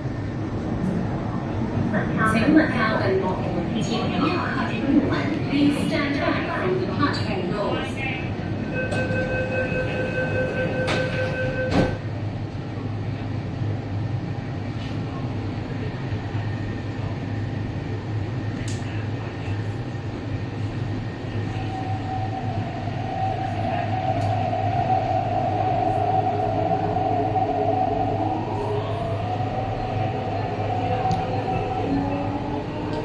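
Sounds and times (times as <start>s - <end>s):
train cabin rumble and hum: 0.0s - 33.0s.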